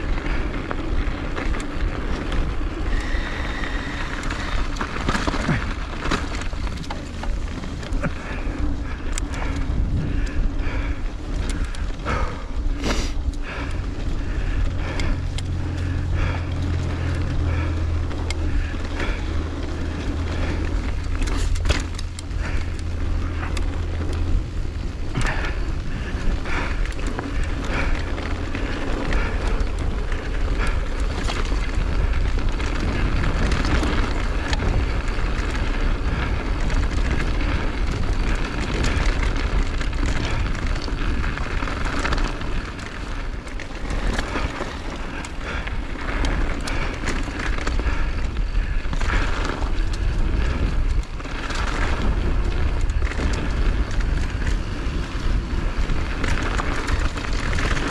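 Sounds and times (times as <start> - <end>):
skis scraping over snow: 0.0 - 57.9
steady low hum: 0.0 - 57.9
wind rushing over microphone: 0.0 - 57.9.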